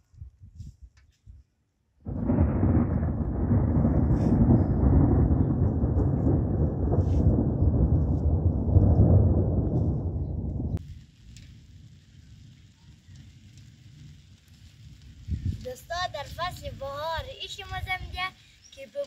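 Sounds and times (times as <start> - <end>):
thunder rumbling: 2.0 - 18.2.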